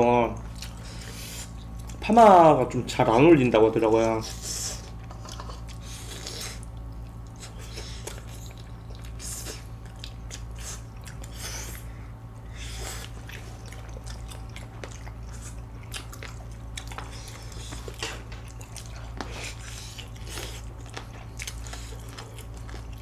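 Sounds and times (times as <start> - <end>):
steady low hum: 0.0 - 23.0
people chewing and lip-smacking: 0.2 - 2.0, 4.3 - 23.0.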